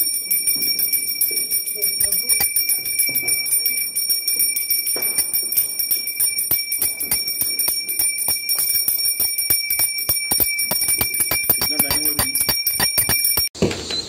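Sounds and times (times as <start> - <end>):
hand bell ringing rapidly: 0.0 - 13.6.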